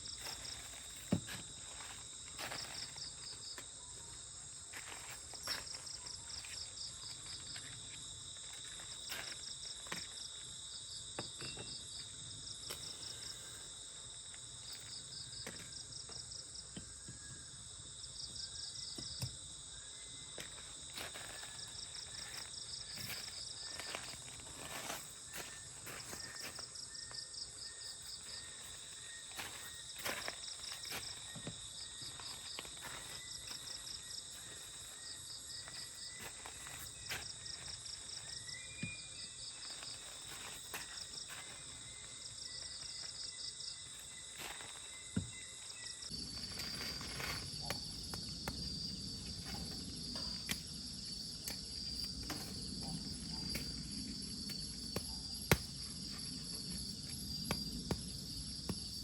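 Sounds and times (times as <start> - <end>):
pulsed insect chirping: 0.0 - 59.0
shrill insect drone: 0.0 - 59.0.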